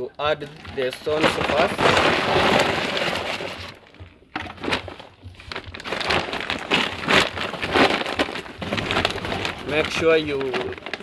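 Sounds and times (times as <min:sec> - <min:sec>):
stones rattling into a sack: 0:00.3 - 0:03.8, 0:04.4 - 0:11.0.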